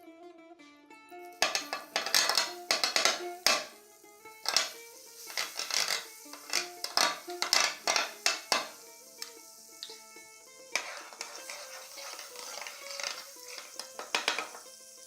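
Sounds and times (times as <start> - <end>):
quiet background music: 0.0 - 15.0
utensil scraping: 1.4 - 14.7.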